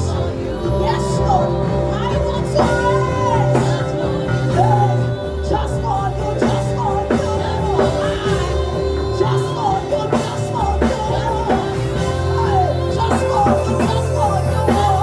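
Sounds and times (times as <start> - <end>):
steady drum beat: 0.0 - 15.0
sustained keyboard chords: 0.0 - 15.0
wordless vocal melody: 0.0 - 15.0.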